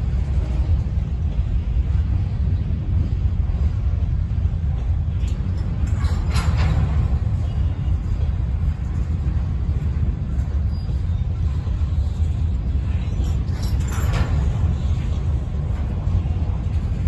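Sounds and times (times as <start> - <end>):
train wheel noise: 0.0 - 17.0.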